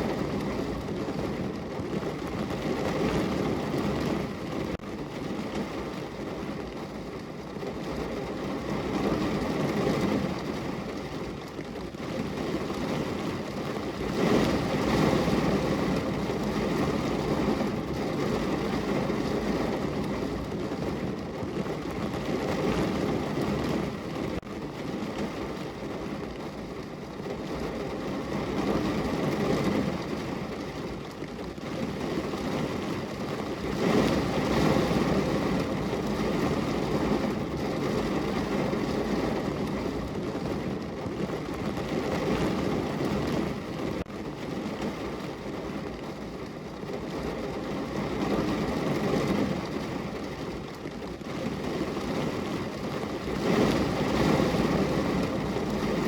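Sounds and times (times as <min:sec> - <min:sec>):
rain drumming on a car roof: 0:00.0 - 0:56.0.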